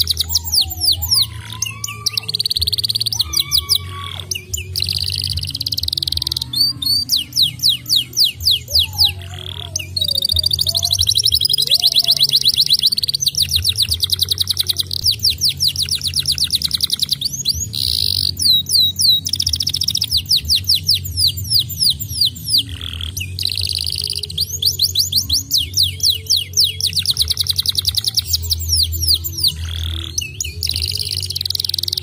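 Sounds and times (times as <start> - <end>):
canary singing: 0.0 - 32.0.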